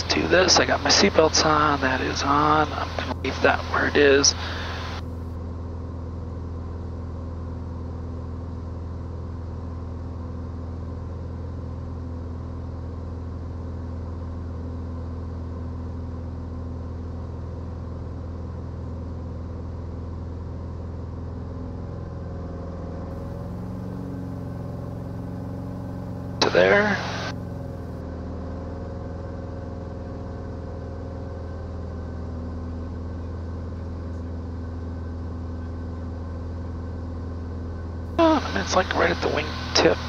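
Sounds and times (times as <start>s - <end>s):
propeller plane engine droning: 0.0s - 40.0s.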